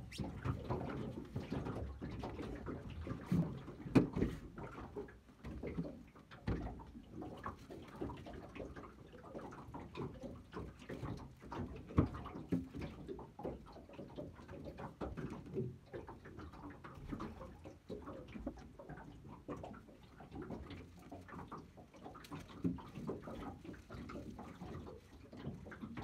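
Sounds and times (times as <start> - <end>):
water lapping against metal hull: 0.0 - 26.0.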